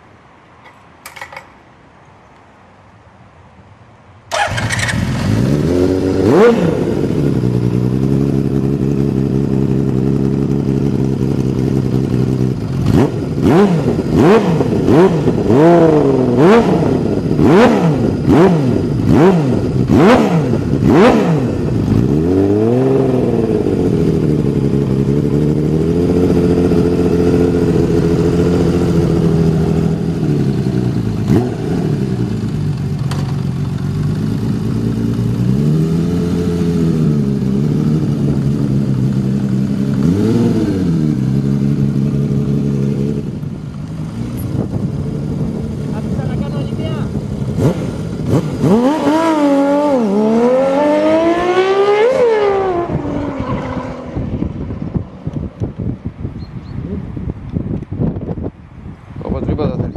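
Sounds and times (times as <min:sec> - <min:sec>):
motorcycle engine idling and revving: 0:00.6 - 0:01.5, 0:04.3 - 0:59.9.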